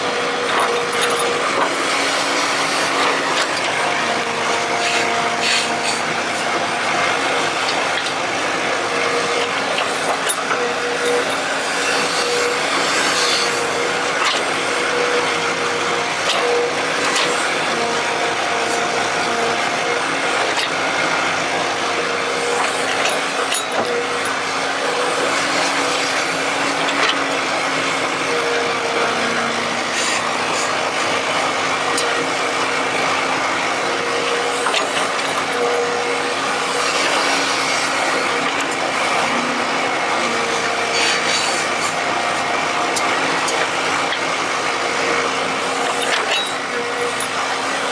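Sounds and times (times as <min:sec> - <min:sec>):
excavator mechanical whine: 0:00.0 - 0:47.9.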